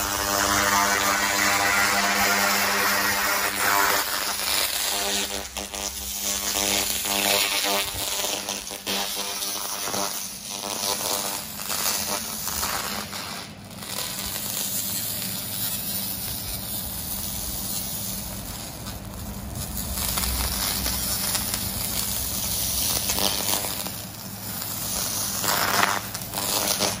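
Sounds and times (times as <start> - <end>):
buzzing tone: 0.0 - 27.0
laser cleaner hissing: 0.0 - 27.0.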